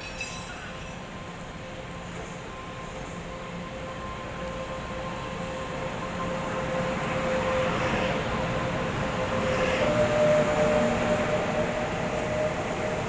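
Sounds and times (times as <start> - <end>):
electric train whine: 0.0 - 13.0
rumble of train wheels: 0.0 - 13.0.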